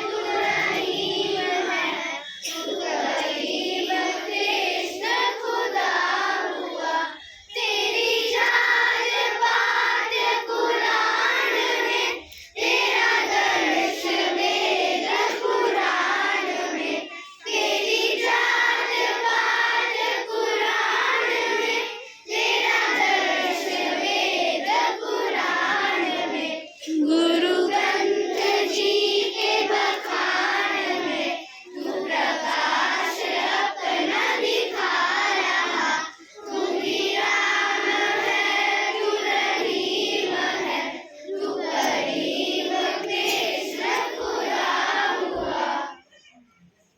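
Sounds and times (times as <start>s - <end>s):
children singing in unison: 0.0s - 46.4s.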